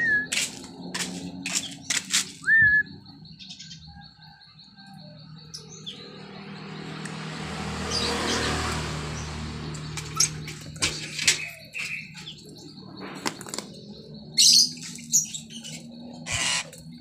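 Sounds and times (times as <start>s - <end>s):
songbird chirping and trilling: 0.0s - 17.0s.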